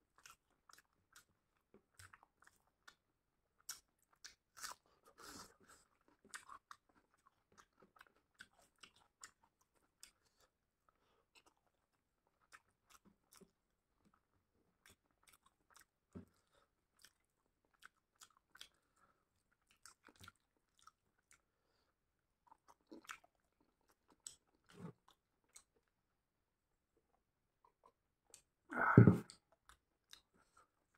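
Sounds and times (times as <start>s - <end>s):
person chewing: 0.1s - 3.0s, 3.6s - 13.6s, 14.2s - 21.5s, 22.4s - 25.9s, 27.7s - 30.7s.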